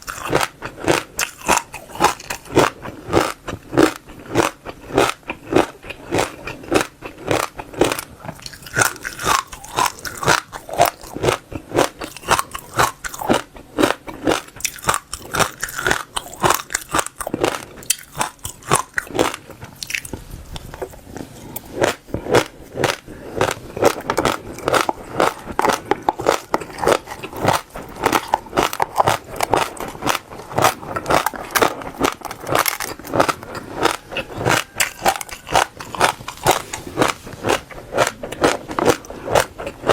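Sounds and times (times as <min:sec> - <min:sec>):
seeds crunching while chewed: 0:00.0 - 0:39.9.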